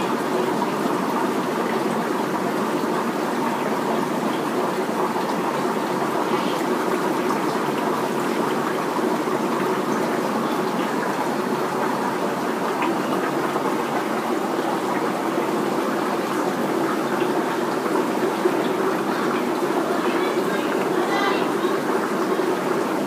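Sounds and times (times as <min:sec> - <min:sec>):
aquarium water bubbling: 0:00.0 - 0:23.0.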